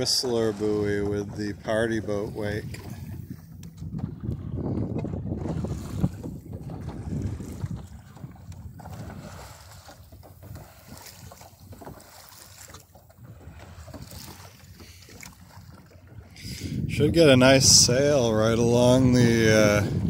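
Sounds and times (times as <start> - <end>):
water washing along hull: 0.0 - 20.0
wind buffeting microphone: 0.0 - 20.0.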